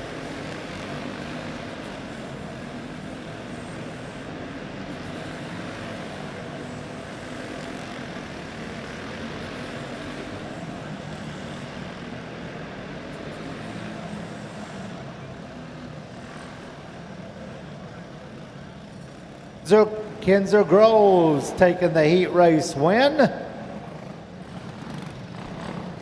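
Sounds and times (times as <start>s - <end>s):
kart engines racing: 0.0s - 26.0s.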